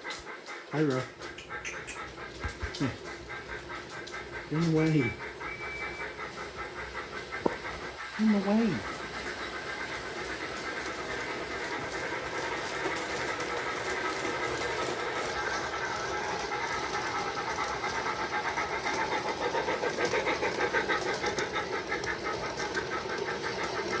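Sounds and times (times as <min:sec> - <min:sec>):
steam chuffing from speaker: 0:00.0 - 0:24.0
model train motor whirring: 0:00.2 - 0:24.0.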